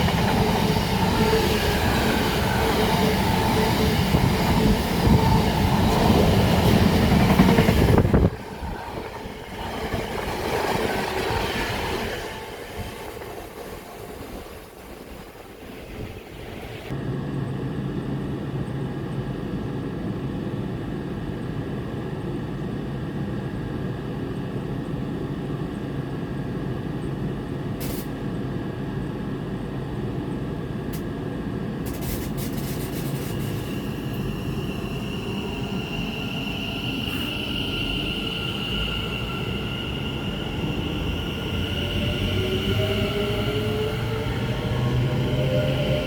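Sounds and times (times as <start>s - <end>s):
train rumbling: 0.0s - 17.2s, 24.4s - 46.0s.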